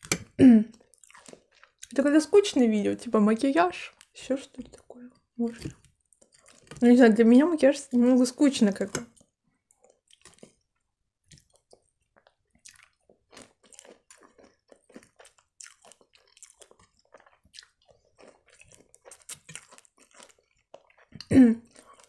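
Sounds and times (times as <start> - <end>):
person chewing food: 0.0 - 2.0, 3.9 - 6.8, 9.0 - 22.0.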